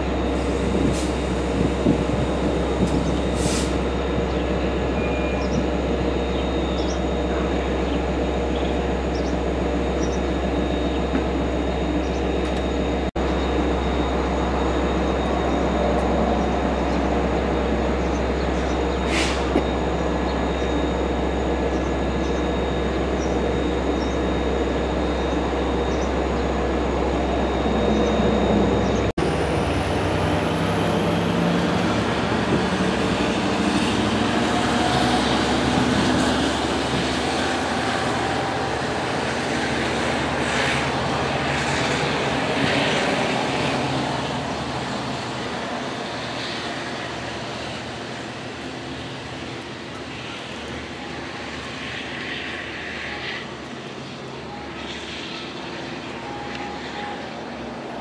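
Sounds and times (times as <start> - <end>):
diesel train engine drone: 0.0 - 58.0.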